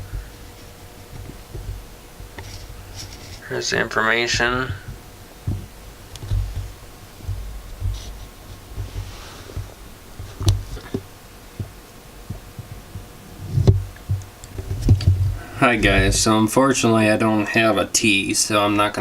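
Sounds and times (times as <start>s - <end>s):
low thumps: 0.0s - 17.4s
faint steady hum: 0.0s - 19.0s.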